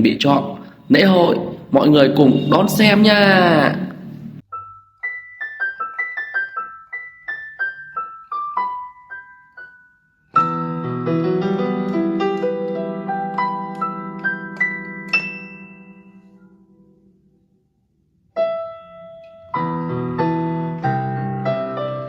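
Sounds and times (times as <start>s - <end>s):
piano music: 0.9s - 17.2s, 18.4s - 22.0s.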